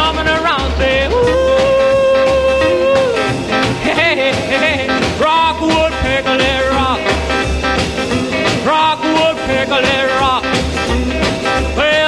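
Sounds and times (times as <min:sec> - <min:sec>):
upbeat rock and roll song: 0:00.0 - 0:12.0.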